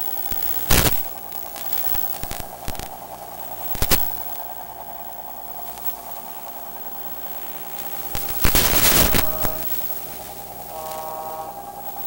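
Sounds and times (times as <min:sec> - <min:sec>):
sharp crackling pops: 0:00.0 - 0:10.7
faint hum: 0:00.0 - 0:12.0
static hiss: 0:00.0 - 0:12.0.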